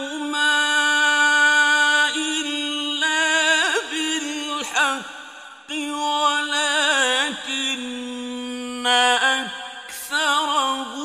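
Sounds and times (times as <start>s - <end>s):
man reciting melodically: 0.0s - 5.1s, 5.7s - 11.0s.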